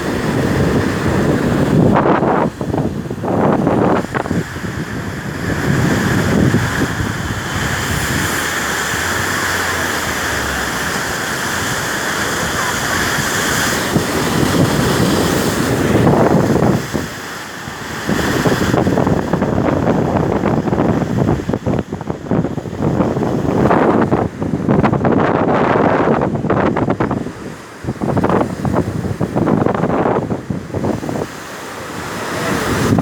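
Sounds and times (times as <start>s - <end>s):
waves breaking: 0.0s - 33.0s
wind buffeting microphone: 0.0s - 33.0s.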